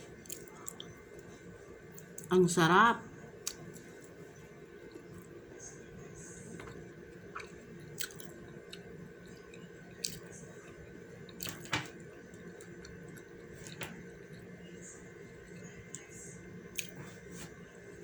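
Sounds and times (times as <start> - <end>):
person chewing food: 0.0 - 2.3, 3.3 - 5.4, 6.4 - 14.6, 15.3 - 17.6
steady background hum: 0.0 - 18.0.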